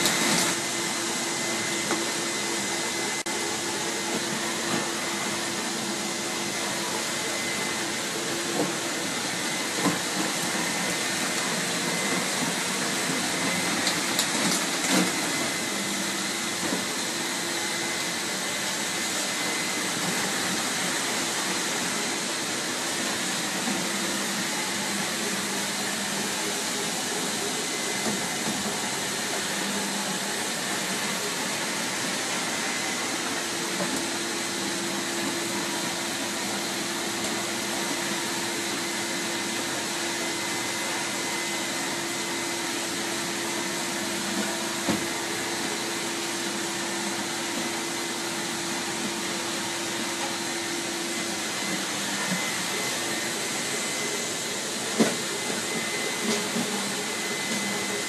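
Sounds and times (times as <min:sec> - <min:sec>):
floor cleaning machine humming: 0:00.0 - 0:58.0.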